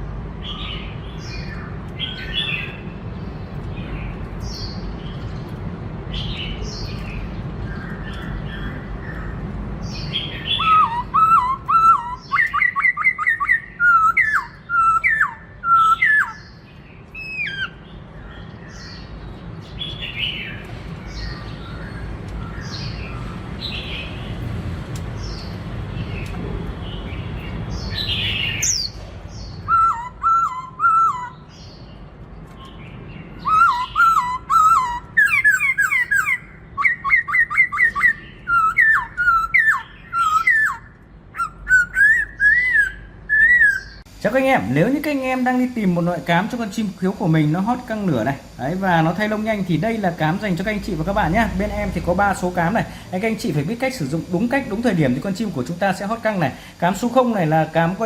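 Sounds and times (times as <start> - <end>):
bird chirps: 0.4 - 24.5, 25.2 - 57.8.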